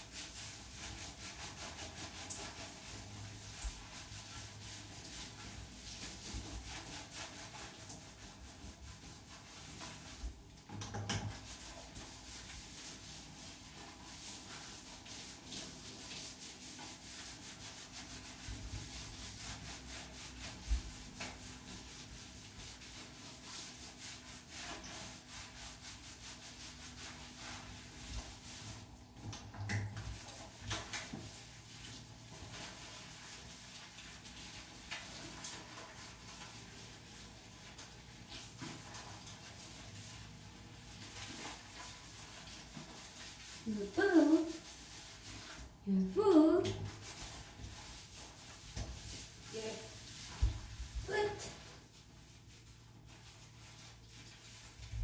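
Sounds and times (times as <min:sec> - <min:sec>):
bath mitt scrubbing wet fur: 0:00.0 - 0:55.0.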